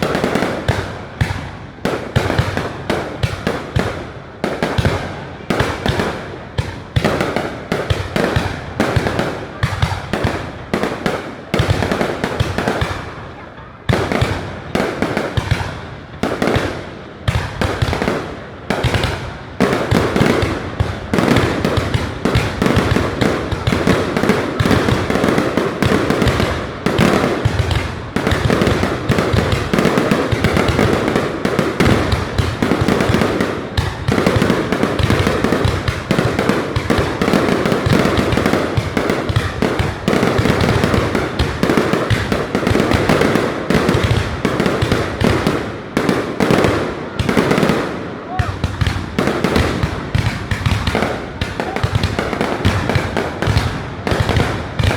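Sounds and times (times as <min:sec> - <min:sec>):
fireworks bursting: 0:00.0 - 0:54.9.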